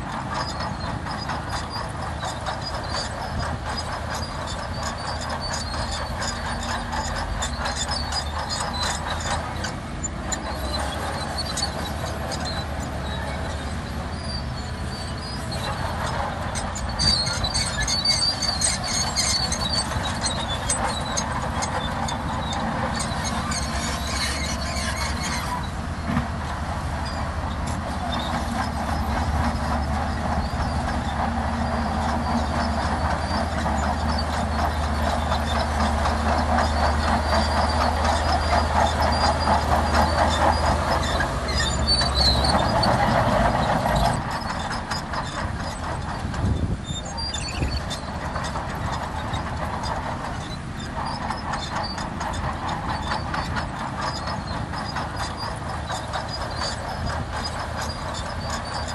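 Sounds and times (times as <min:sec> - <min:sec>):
bulldozer engine under load: 0:00.0 - 0:58.9
steel tracks clanking and squealing: 0:00.0 - 0:58.9.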